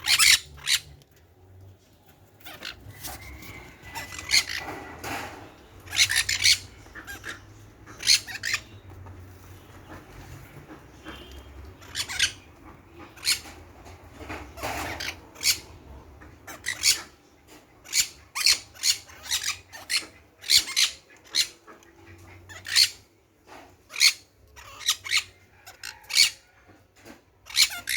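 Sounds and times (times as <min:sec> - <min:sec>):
small birds chirping and squeaking: 0:00.0 - 0:27.9.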